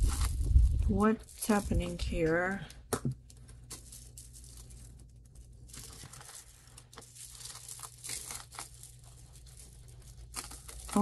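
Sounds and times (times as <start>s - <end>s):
jewelry rustling and clicking: 0.1s - 11.0s.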